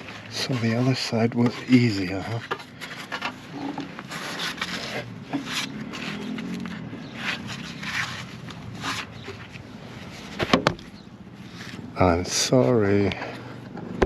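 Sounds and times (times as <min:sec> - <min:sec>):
rubber rubbing and scraping on metal: 0:00.0 - 0:11.9.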